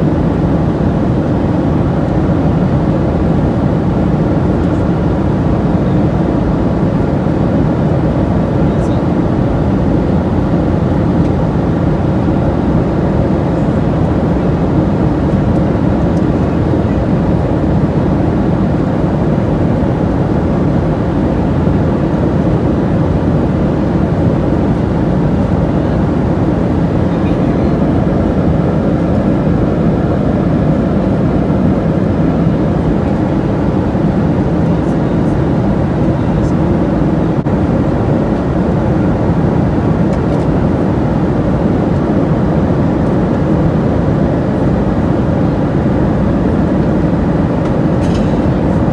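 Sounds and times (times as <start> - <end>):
airplane cabin drone: 0.0 - 48.9.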